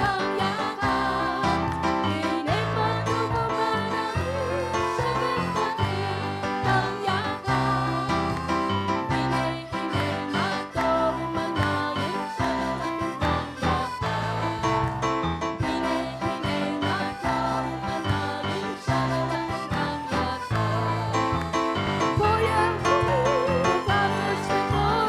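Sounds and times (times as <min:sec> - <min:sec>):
worship band playing upbeat song: 0:00.0 - 0:25.0.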